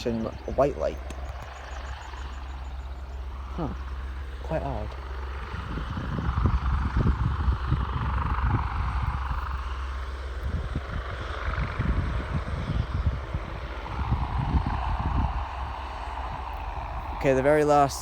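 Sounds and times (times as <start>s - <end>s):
helicopter turbine hiss: 0.0s - 18.0s
low gusty rumble: 0.0s - 18.0s.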